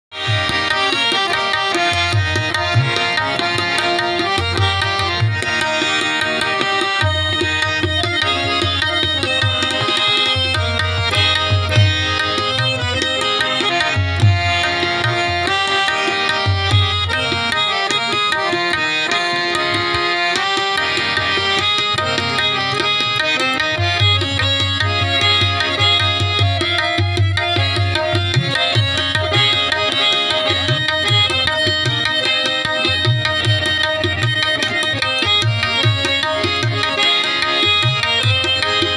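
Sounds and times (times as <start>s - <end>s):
harmoniums playing melody: 0.0s - 38.9s
rhythmic hand clapping: 0.1s - 38.9s
tabla beat: 0.1s - 38.9s.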